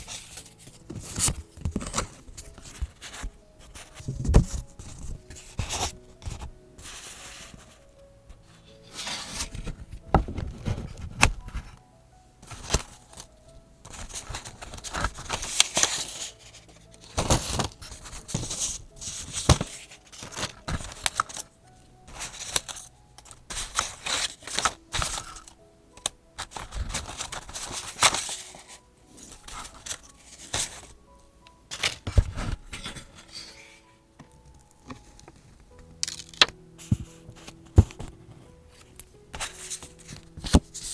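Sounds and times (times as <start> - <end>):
paper rustling: 0.0 - 7.8, 8.4 - 11.8, 12.4 - 21.5, 22.1 - 31.0, 31.7 - 33.9, 34.9 - 40.9.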